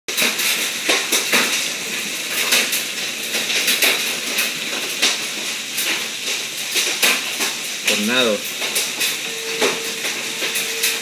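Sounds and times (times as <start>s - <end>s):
hail clattering: 0.1s - 11.0s
heavy rain hiss: 0.1s - 11.0s.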